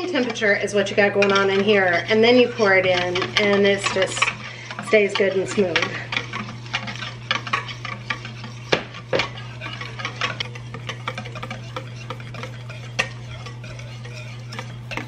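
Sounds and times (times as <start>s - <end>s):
steady low hum: 0.0s - 15.0s
whisk scraping metal bowl: 0.0s - 15.0s.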